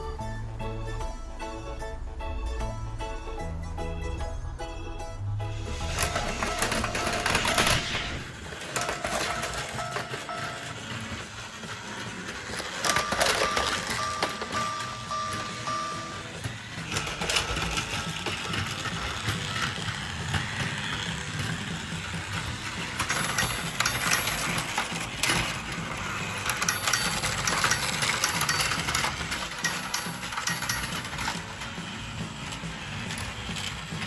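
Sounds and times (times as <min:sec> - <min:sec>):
toy motor whirring: 0:05.6 - 0:34.0
wheels clicking on plastic track: 0:05.8 - 0:34.0.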